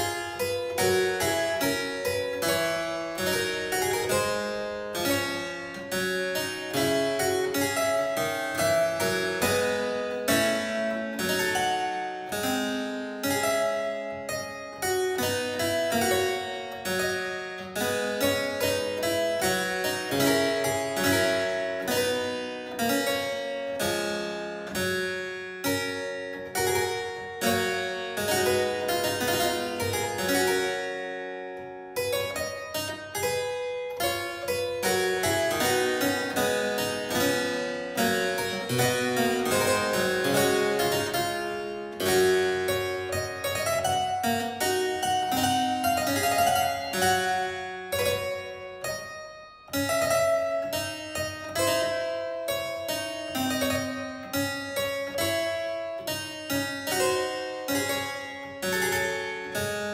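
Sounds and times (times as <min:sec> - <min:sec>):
harpsichord music: 0:00.0 - 0:59.9.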